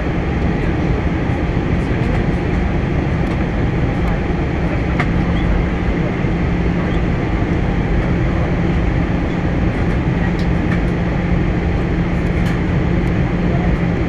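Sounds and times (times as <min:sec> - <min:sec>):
jet engines and airflow roar: 0:00.0 - 0:14.0
steady low drone: 0:00.0 - 0:14.0.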